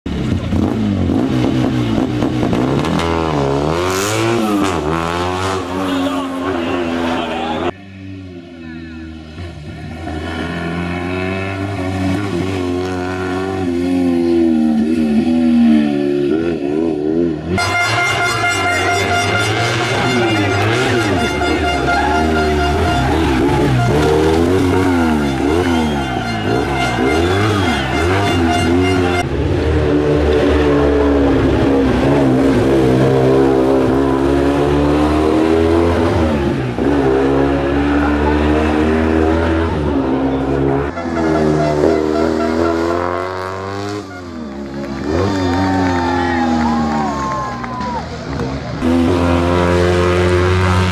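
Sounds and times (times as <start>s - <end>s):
rally car engine revving: 0.1s - 50.9s.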